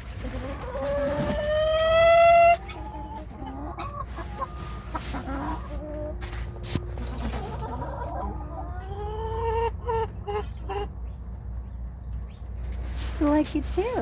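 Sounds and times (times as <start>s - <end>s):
chicken clucking: 0.0s - 13.4s.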